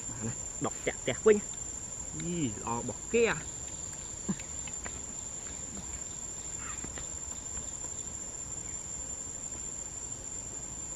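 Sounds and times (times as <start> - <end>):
insects droning: 0.0 - 10.9.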